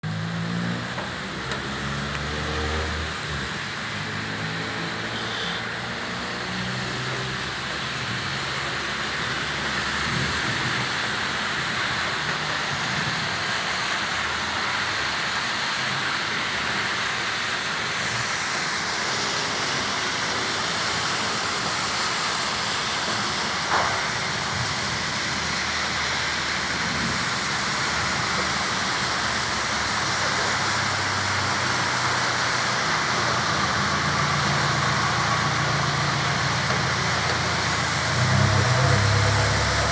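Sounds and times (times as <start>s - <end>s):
road traffic engines: 0.0s - 39.9s
steady rain: 0.0s - 39.9s.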